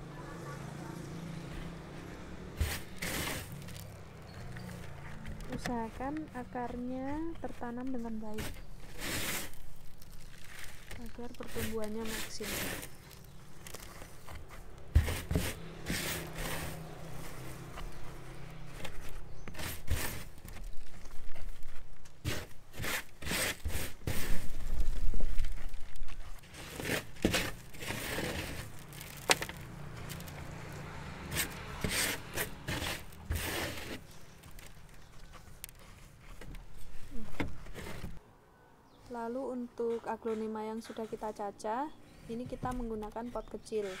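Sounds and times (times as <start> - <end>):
hands pressing potting mix: 2.5 - 38.2.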